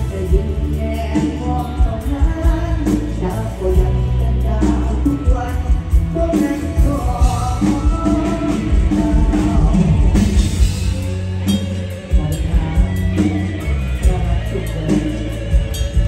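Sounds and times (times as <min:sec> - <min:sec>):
live rock band playing: 0:00.0 - 0:16.0
man singing: 0:00.0 - 0:16.0
steady drum beat: 0:00.0 - 0:16.0.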